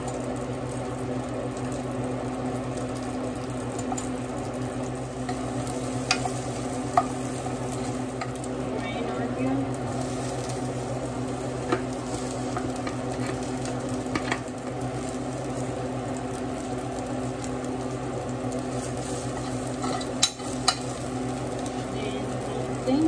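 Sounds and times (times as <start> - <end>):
garlic sizzling in oil: 0.0 - 23.0.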